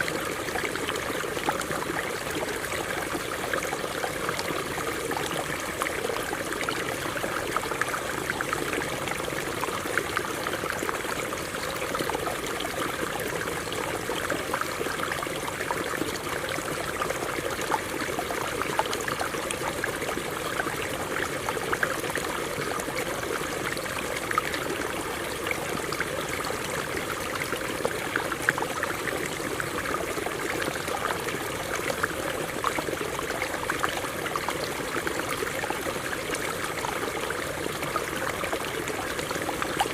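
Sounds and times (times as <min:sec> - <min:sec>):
stream water splashing over rocks: 0:00.0 - 0:39.9.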